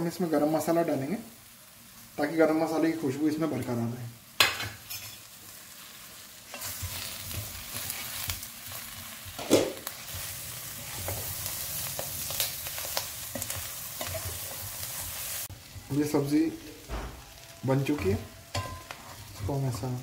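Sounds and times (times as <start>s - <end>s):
vegetables sizzling in a pot: 0.0s - 20.0s.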